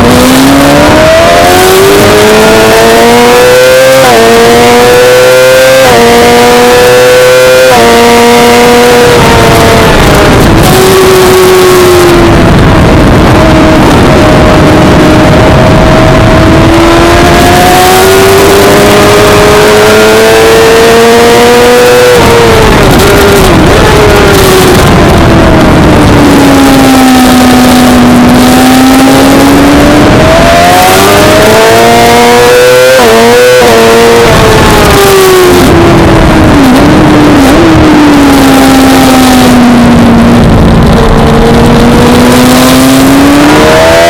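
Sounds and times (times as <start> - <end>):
motorcycle engine revving: 0.0 - 44.0
wind noise: 0.0 - 44.0.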